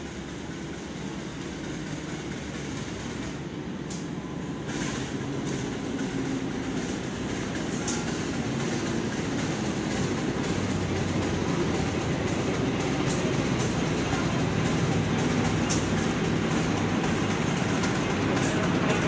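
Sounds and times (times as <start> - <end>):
locomotive engine and running gear: 0.0 - 19.0.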